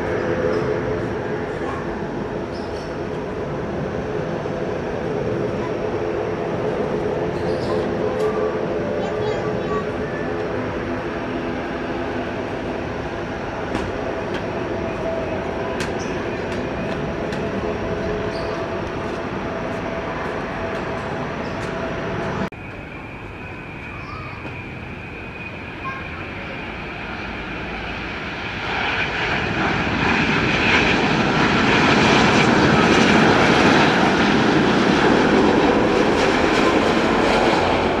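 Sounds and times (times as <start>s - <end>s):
jet engines rushing: 0.0s - 38.0s
turboprop engines running: 0.0s - 38.0s.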